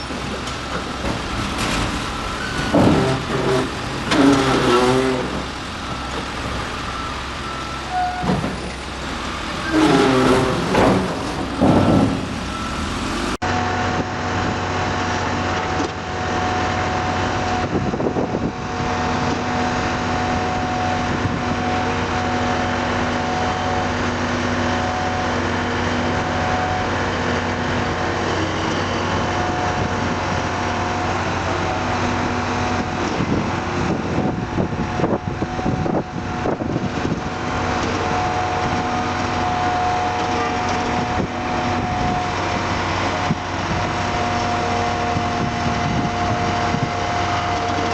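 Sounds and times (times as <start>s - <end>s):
heavy machine engine running: 0.0s - 47.9s.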